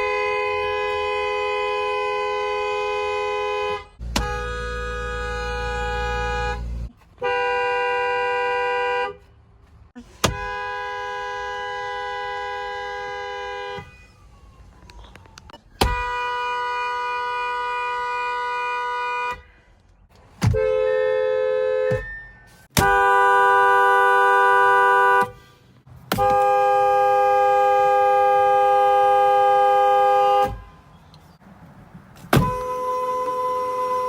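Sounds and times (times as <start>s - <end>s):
car horns blasting: 0.0s - 9.3s, 10.2s - 13.9s, 15.8s - 19.6s, 20.4s - 30.8s, 32.2s - 34.0s.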